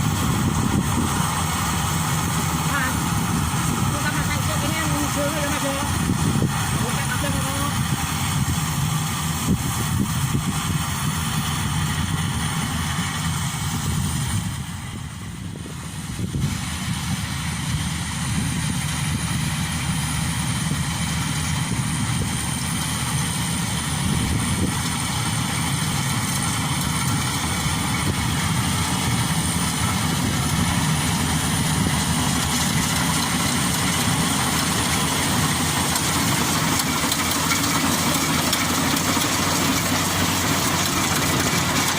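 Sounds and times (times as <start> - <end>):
combine harvester engine running: 0.0 - 41.9.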